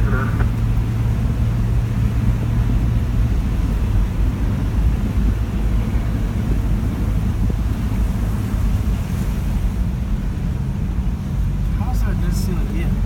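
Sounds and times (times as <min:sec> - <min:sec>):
wind buffeting microphone: 0:00.0 - 0:11.8
engine and tyre rumble: 0:00.0 - 0:13.0
low engine hum: 0:00.0 - 0:13.0.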